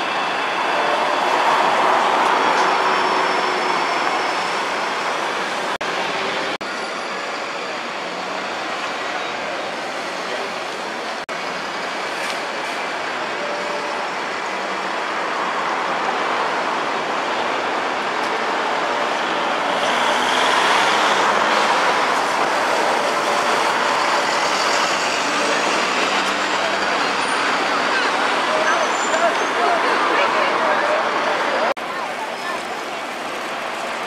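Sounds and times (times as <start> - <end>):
bus engine and tyre noise: 0.0 - 34.0
city street traffic: 0.0 - 34.0.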